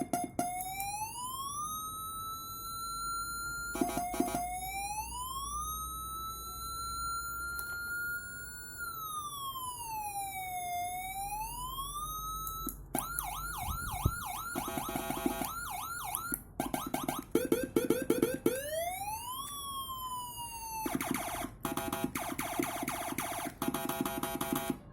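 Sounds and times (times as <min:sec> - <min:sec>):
electronic siren: 0:00.0 - 0:24.9.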